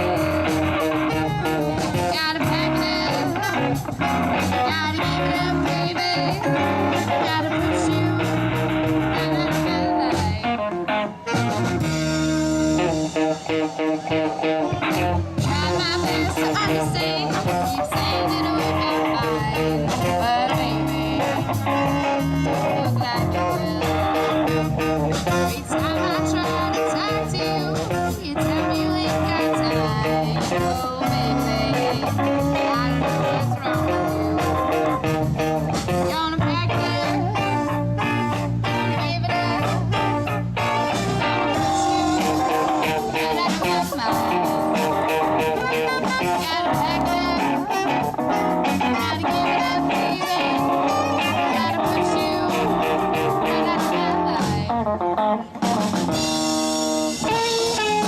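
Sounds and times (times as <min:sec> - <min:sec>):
person singing: 0:00.0 - 0:11.5, 0:12.8 - 0:54.9
blues-rock band playing: 0:00.0 - 0:58.0
saxophone: 0:00.0 - 0:58.0.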